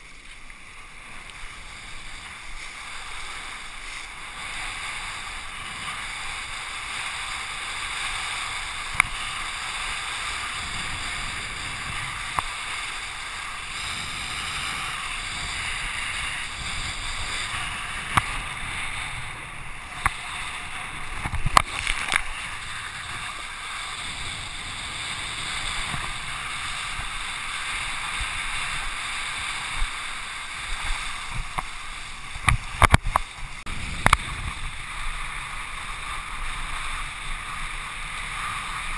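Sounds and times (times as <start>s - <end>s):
wind and water rushing: 0.0s - 38.9s.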